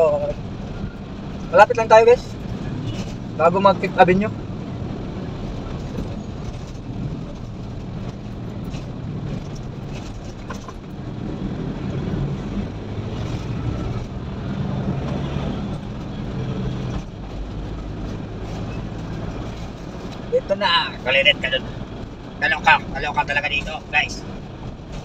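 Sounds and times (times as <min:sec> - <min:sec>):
vehicle engine and tyre drone: 0:00.0 - 0:25.0.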